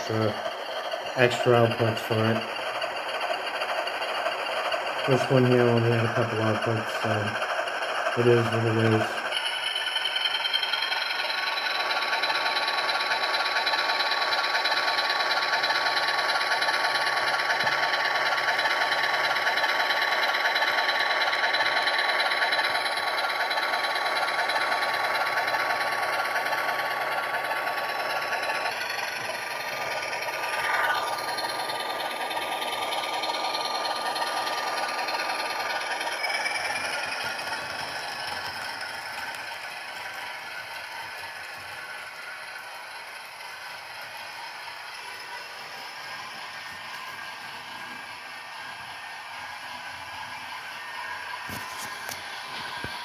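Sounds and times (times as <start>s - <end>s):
diesel engine sound effect: 0.0s - 53.0s
model train motors whirring: 0.0s - 53.0s.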